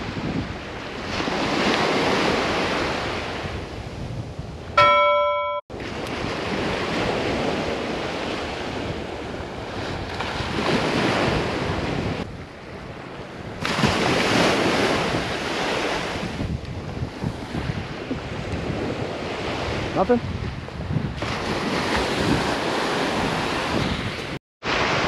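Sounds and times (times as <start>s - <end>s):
surf washing up beach: 0.0s - 4.1s, 4.8s - 25.0s
wind on microphone: 0.0s - 25.0s.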